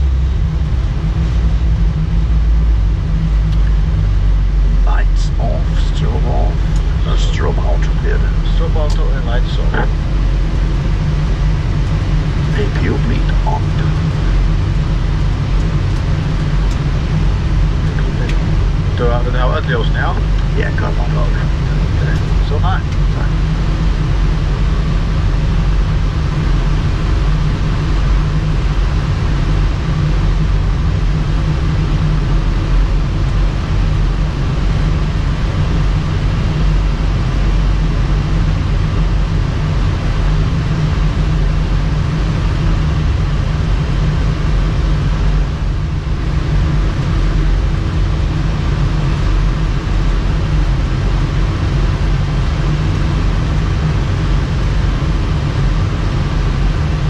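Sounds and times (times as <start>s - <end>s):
faint hum: 0.0s - 57.0s
jet engines rumbling at idle: 0.0s - 57.0s.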